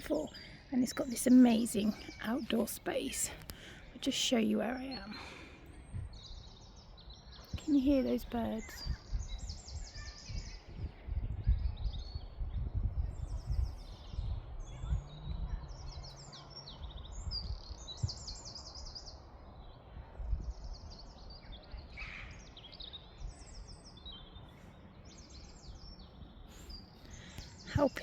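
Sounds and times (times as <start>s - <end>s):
songbirds trilling: 0.0s - 28.0s.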